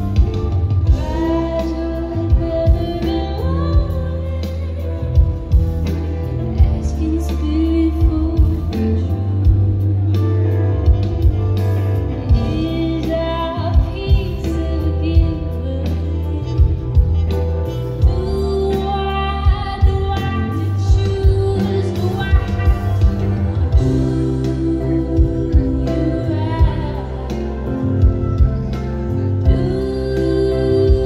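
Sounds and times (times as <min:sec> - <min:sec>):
live band music: 0:00.0 - 0:31.0
woman singing: 0:00.0 - 0:31.0.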